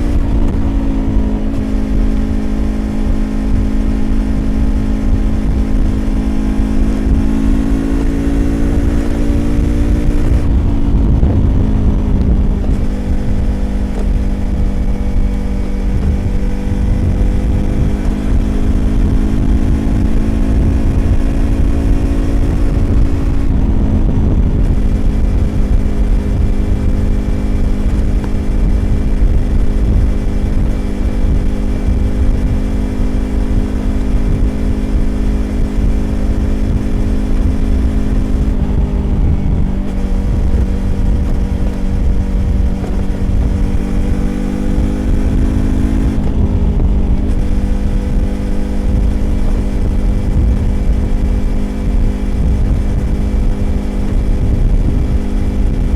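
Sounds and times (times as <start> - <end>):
motorcycle engine running: 0.0 - 55.9
road rumble: 0.0 - 55.9
wind: 0.0 - 55.9.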